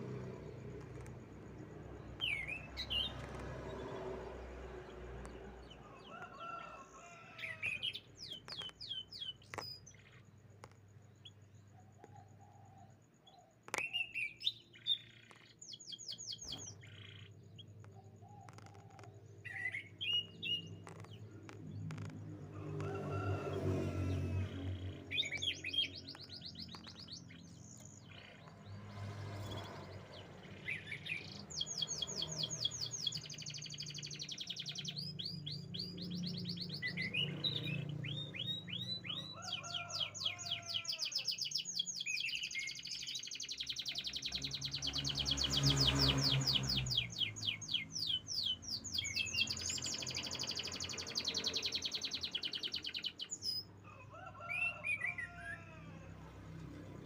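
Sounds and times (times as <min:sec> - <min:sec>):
canary singing trills: 0:00.0 - 0:11.4, 0:13.3 - 0:55.8.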